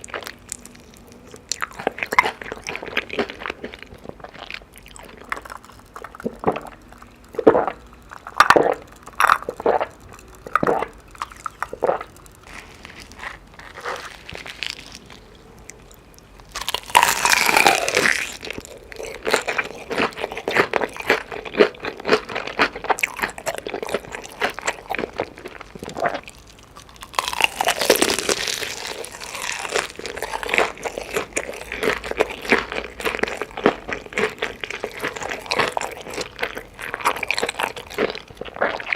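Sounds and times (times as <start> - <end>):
crunchy chewing of chicken: 0.0 - 38.9.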